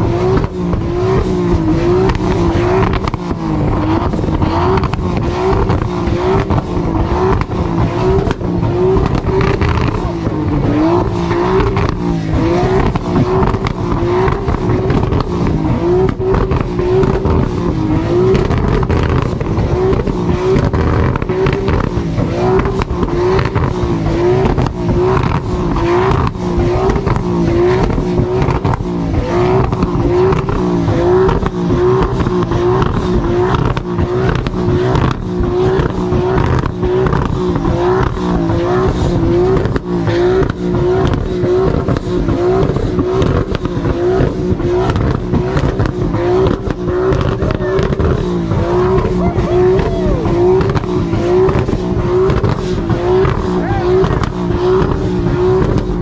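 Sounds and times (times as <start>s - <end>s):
car engine and exhaust: 0.0s - 56.0s.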